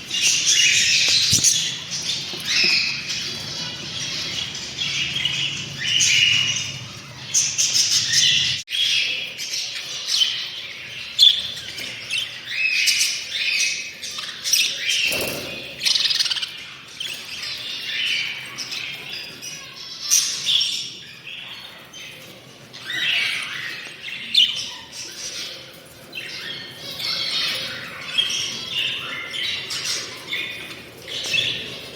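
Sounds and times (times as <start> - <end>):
budgerigars chirping and squawking: 0.0 - 31.9.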